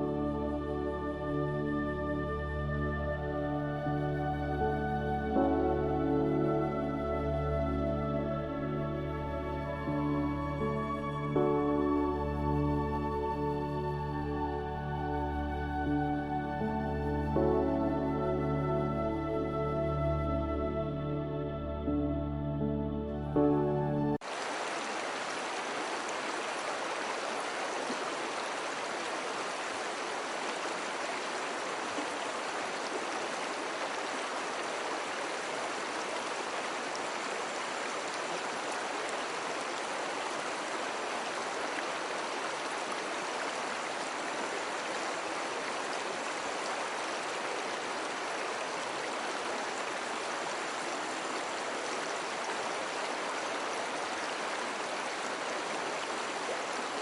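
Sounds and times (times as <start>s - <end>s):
stream water rushing: 0.0s - 19.8s, 24.2s - 57.0s.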